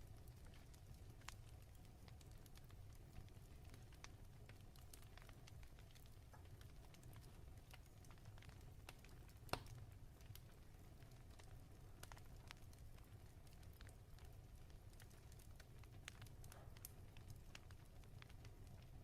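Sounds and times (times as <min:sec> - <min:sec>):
fireplace crackling: 0:00.0 - 0:19.0.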